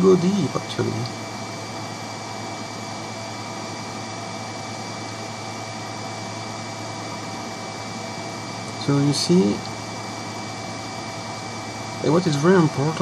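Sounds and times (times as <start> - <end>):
cooling fan whirring: 0.0 - 13.0.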